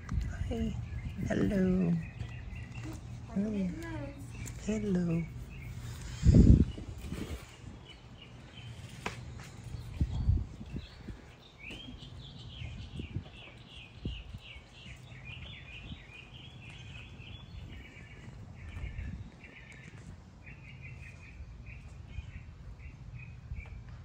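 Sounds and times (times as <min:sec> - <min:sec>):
low steady rumble: 0:00.0 - 0:24.0
songbird singing: 0:00.0 - 0:24.0.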